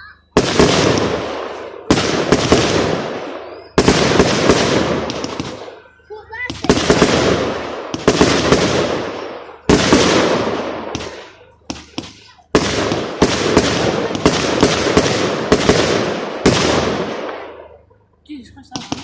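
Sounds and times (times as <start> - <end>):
firework crackling: 0.0 - 17.8, 18.4 - 19.0
firework shells bursting with bangs: 0.0 - 19.0.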